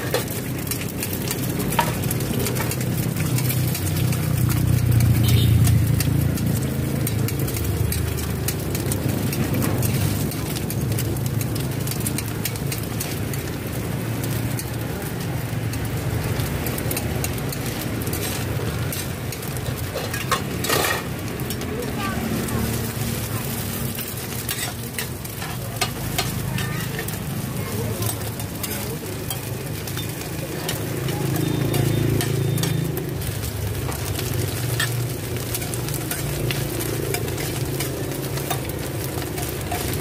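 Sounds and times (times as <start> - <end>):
food sizzling in oil: 0.0 - 40.0
metal tongs tapping a pan: 0.0 - 40.0.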